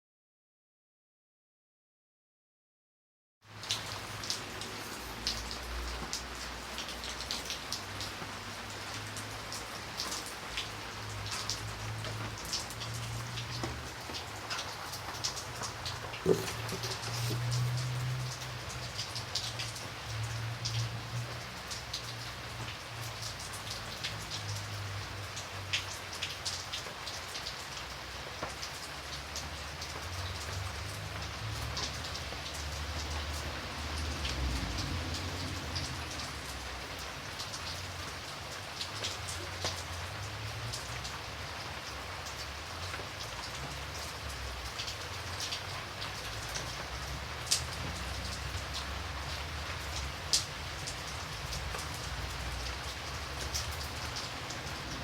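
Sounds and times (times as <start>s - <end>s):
rain falling: 3.4s - 55.0s
raindrops striking sharply: 3.5s - 55.0s.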